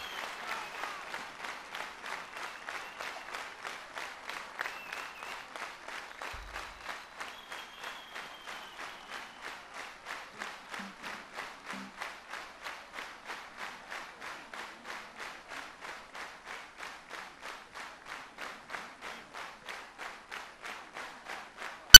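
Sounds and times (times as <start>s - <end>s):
audience clapping in unison: 0.0s - 22.0s.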